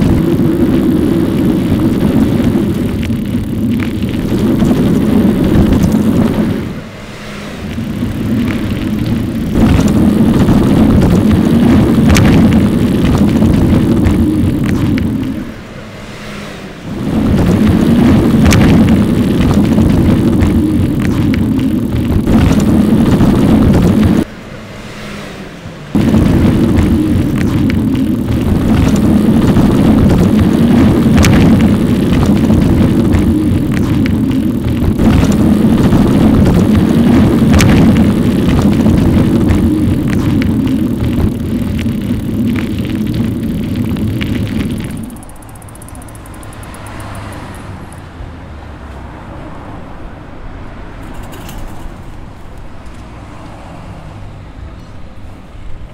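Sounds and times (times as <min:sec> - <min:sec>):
wind and road noise rumble: 0:00.0 - 0:55.9.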